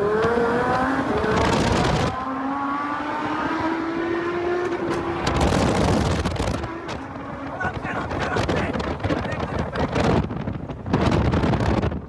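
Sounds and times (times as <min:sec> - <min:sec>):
car engine accelerating hard: 0:00.0 - 0:11.8
rushing wind and road noise: 0:00.0 - 0:12.0.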